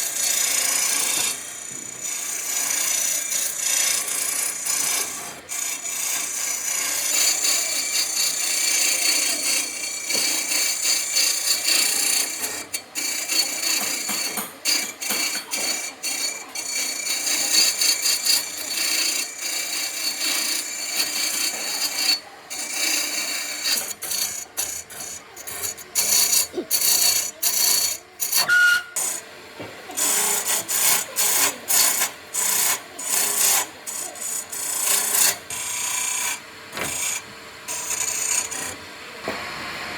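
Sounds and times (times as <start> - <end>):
rasp scraping wood: 0.0 - 29.3, 29.9 - 38.8.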